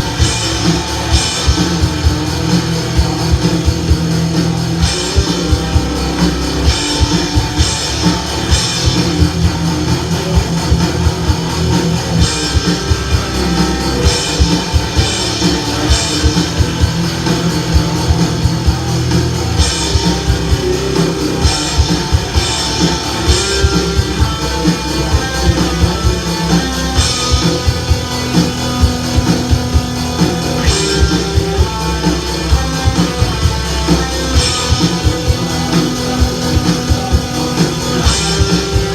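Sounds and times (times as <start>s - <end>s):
instrumental rock music: 0.0s - 38.9s.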